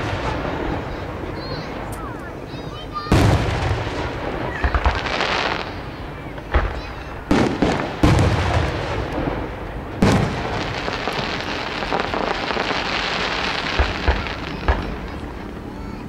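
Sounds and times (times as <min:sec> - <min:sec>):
crackling hiss of firework stars: 0:00.0 - 0:16.0
firework shells booming: 0:00.0 - 0:16.0.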